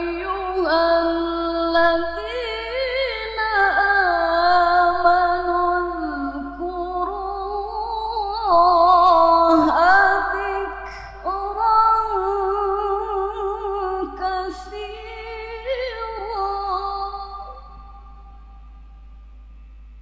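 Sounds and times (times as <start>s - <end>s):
woman reciting melodically: 0.0s - 17.8s.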